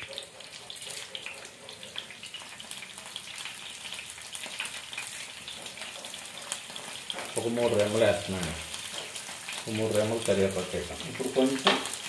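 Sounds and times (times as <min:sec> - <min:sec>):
onions frying in hot oil: 0:00.0 - 0:12.0.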